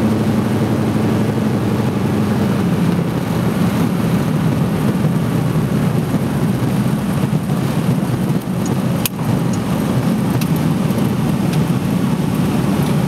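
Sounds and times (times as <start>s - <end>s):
plane engine and propeller: 0.0s - 13.0s.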